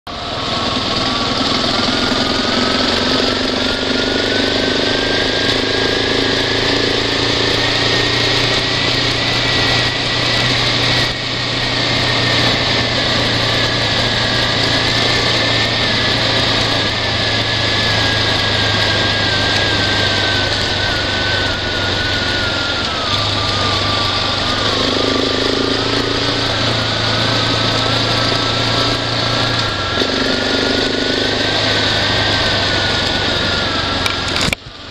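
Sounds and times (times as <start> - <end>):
engine whine: 0.1 - 34.9
vehicle engine running: 0.1 - 34.9.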